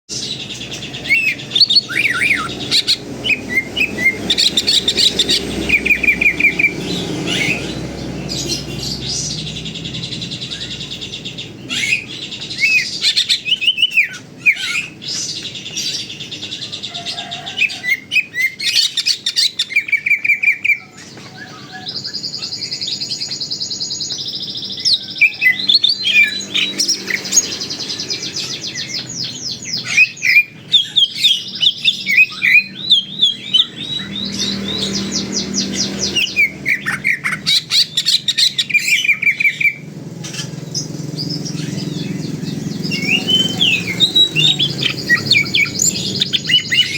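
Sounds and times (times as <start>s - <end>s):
bird singing chirps and trills: 0.1s - 46.9s.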